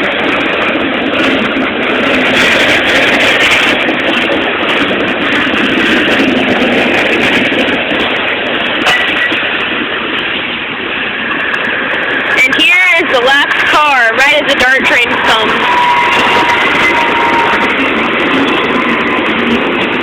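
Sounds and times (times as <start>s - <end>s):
freight cars rolling on rails: 0.0s - 20.0s.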